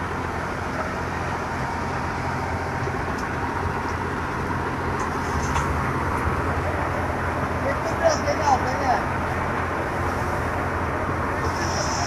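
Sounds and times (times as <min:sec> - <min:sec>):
threshing machine droning: 0:00.0 - 0:12.0.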